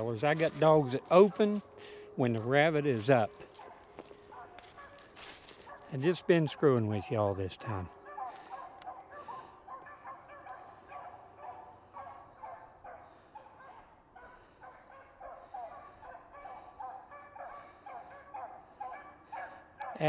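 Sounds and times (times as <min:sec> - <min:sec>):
faint dogs baying: 0:00.0 - 0:20.0.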